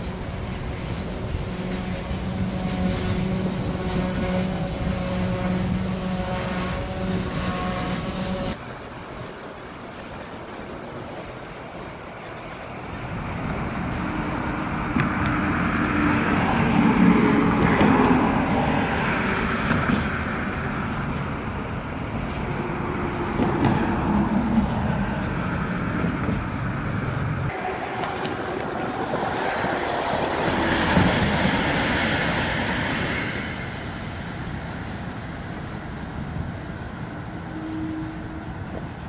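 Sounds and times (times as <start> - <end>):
freight train rolling past: 0.0 - 39.0.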